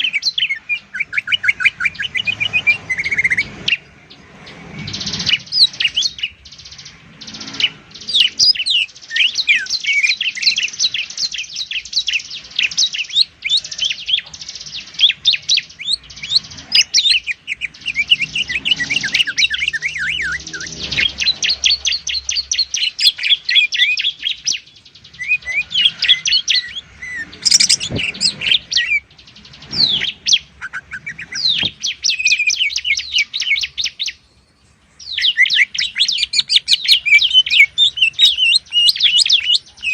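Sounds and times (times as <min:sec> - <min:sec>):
birds singing high chirps and trills: 0:00.0 - 0:39.9.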